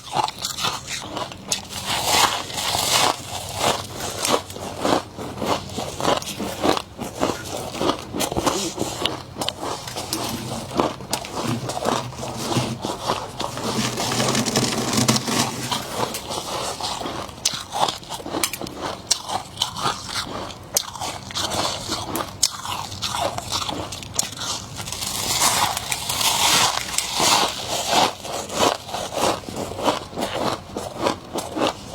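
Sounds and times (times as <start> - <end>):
chewing crunchy frost: 0.0 - 31.9.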